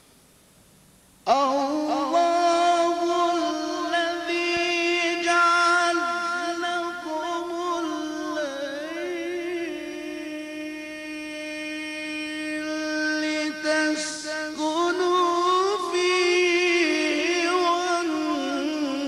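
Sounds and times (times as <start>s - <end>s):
man reciting melodically: 1.3s - 19.0s.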